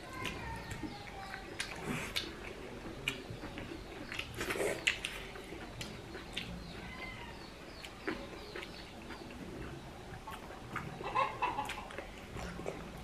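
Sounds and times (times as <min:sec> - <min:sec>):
chewing and lip smacks: 0:00.0 - 0:13.0.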